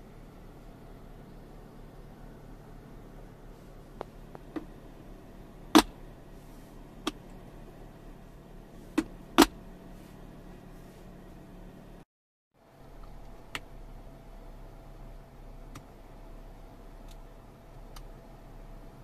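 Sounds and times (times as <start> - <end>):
steady low hum: 0.0 - 12.0, 12.6 - 19.0.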